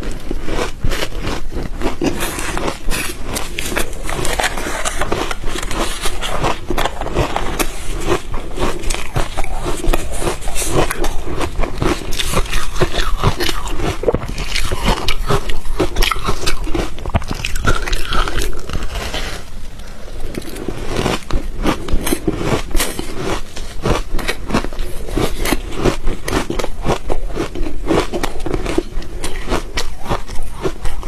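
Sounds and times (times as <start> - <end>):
ice crunching between teeth: 0.0 - 19.5, 20.2 - 31.0.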